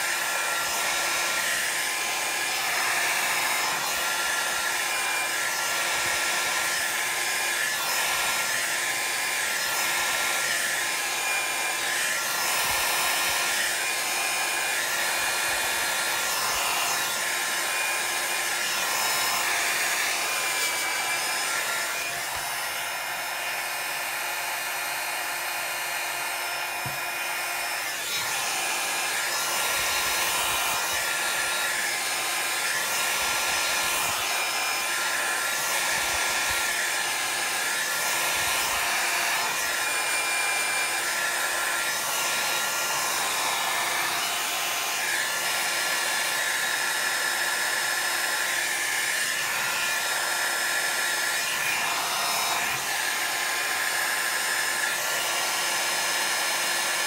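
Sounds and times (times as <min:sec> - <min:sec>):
hot-air tool whirring: 0:00.0 - 0:57.0.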